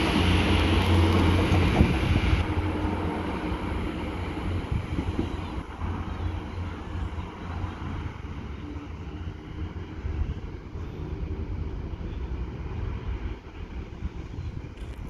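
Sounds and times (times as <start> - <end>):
diesel train engine drone: 0.0 - 15.0
rushing noise: 0.0 - 15.0.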